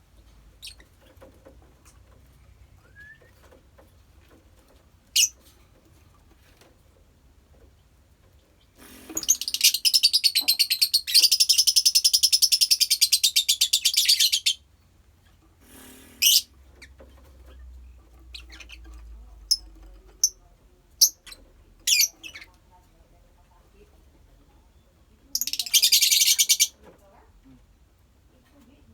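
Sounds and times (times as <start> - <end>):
lovebirds chattering: 0.2 - 3.8, 5.0 - 5.5, 7.5 - 14.7, 15.6 - 27.6.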